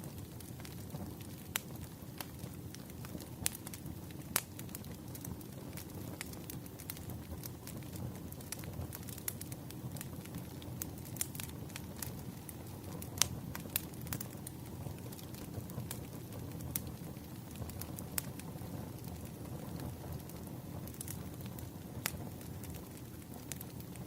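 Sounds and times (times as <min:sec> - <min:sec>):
campfire crackles and pops: 0:00.0 - 0:24.0
flames rumbling: 0:00.0 - 0:24.0.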